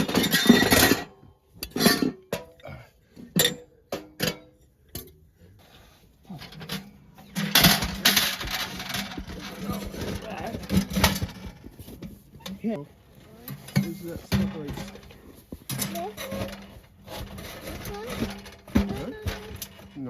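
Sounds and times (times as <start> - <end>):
metal clinks and knocks: 0.0 - 2.6, 6.3 - 20.0
rustling and clatter: 0.0 - 20.0.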